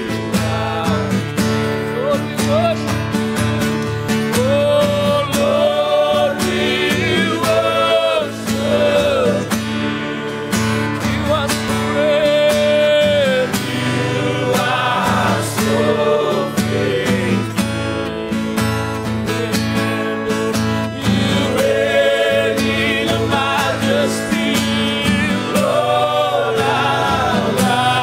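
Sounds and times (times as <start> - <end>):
men singing together: 0.0 - 1.4, 4.4 - 28.0
strummed acoustic guitar: 0.0 - 28.0.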